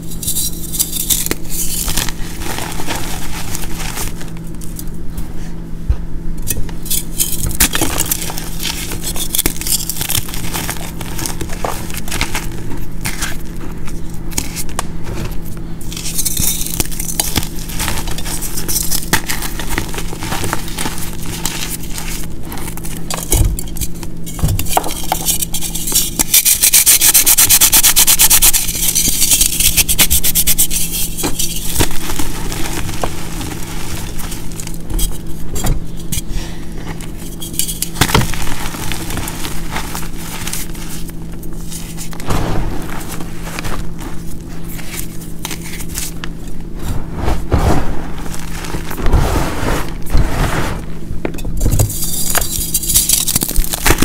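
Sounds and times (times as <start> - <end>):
chalk crushing and crumbling: 0.0 - 4.9, 6.8 - 50.9, 51.8 - 54.0.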